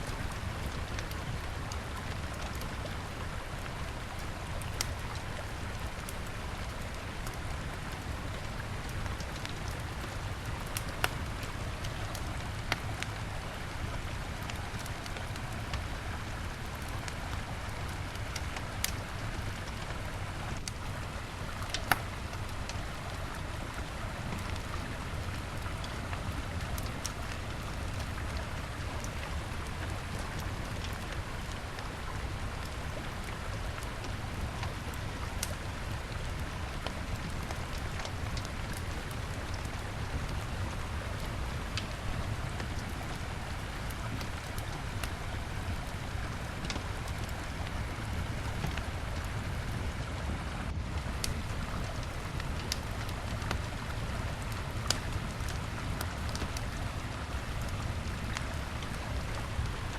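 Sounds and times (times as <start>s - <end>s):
wood fire crackling: 0.1s - 59.9s.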